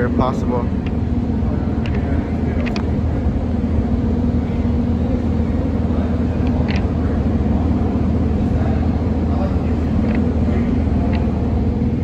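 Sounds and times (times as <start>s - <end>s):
low rumble and hum of machinery: 0.0s - 12.0s.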